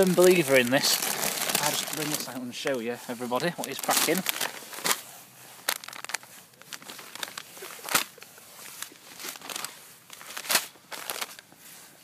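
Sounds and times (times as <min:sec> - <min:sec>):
plastic packets crinkling: 0:00.0 - 0:11.5.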